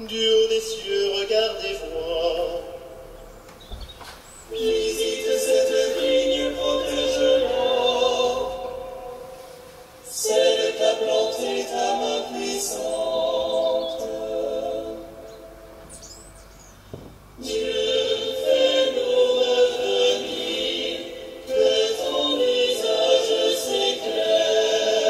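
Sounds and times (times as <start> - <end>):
choir singing: 0.0 - 3.4, 4.5 - 16.2, 17.4 - 25.0.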